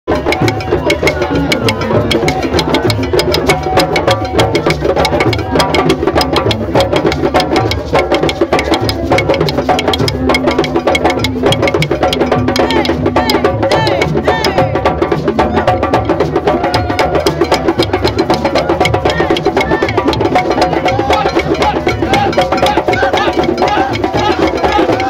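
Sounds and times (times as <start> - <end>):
drum circle playing fast rhythm: 0.1 - 25.0.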